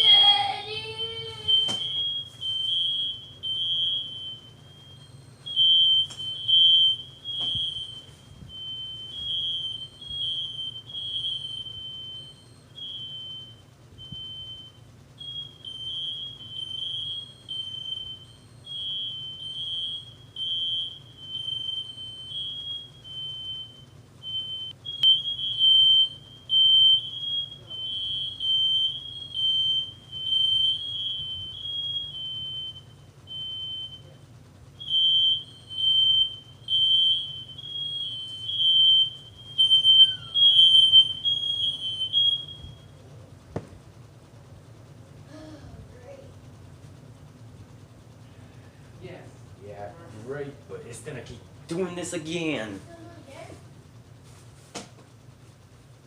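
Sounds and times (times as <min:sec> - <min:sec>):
fire alarms beeping: 0:00.0 - 0:43.5, 0:44.1 - 0:54.4
faint low hum: 0:00.0 - 0:56.0.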